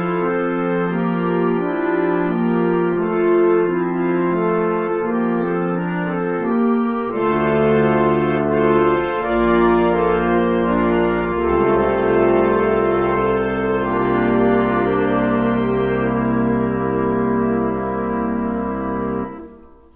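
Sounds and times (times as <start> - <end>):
reed organ slow sustained chords: 0.0 - 19.9.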